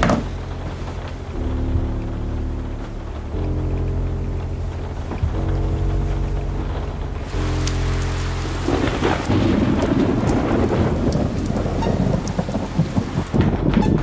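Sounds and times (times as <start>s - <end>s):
low held drone: 0.0s - 13.4s
steady rain: 0.0s - 14.0s
thunder rumbling: 0.0s - 14.0s.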